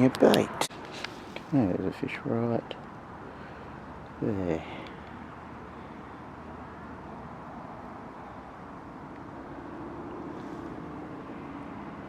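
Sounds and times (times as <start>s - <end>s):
distant engine drone: 0.0s - 12.0s.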